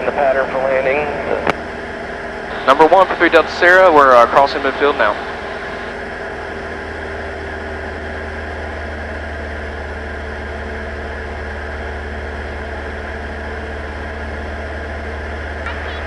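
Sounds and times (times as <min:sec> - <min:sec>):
aircraft engine and propeller droning: 0:00.0 - 0:16.0.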